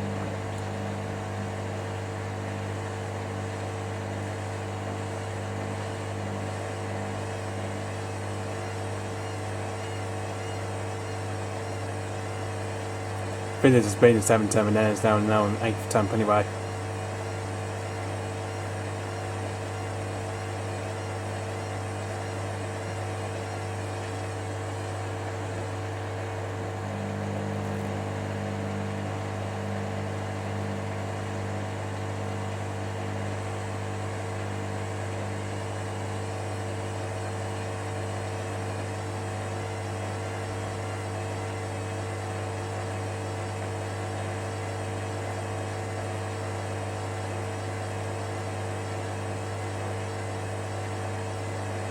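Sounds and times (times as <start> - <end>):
washing machine humming: 0.0 - 51.9.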